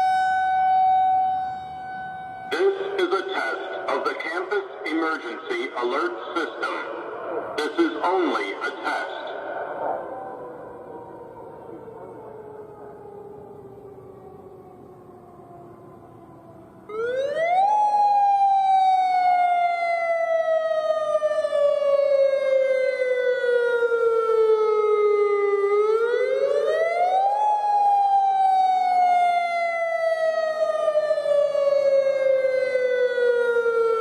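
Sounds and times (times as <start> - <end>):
warning siren wailing: 0.0 - 34.0.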